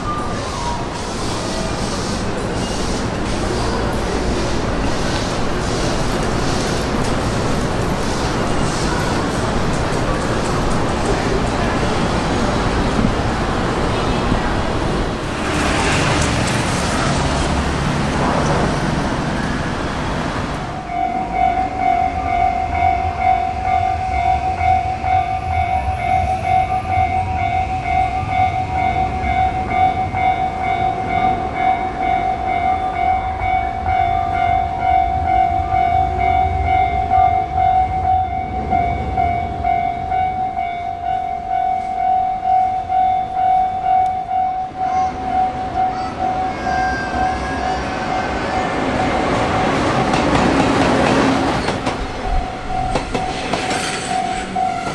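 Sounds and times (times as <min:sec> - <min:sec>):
level-crossing warning bell: 0:00.0 - 0:13.7, 0:19.1 - 0:50.3, 0:51.6 - 0:54.9
low rumble of rail traffic: 0:00.0 - 0:54.9
passing train rushing: 0:00.0 - 0:54.9.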